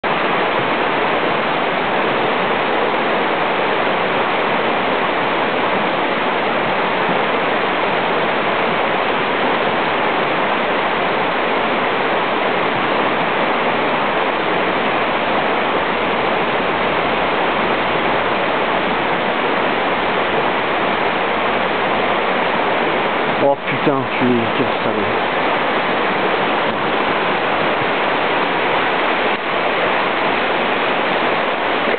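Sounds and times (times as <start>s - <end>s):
river water rushing over rapids: 0.0s - 31.9s.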